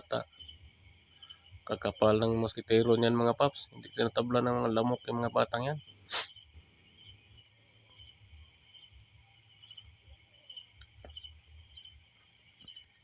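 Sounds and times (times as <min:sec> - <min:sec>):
crickets chirping in pulses: 0:00.0 - 0:13.0
faint lower cricket chirping: 0:00.0 - 0:13.0.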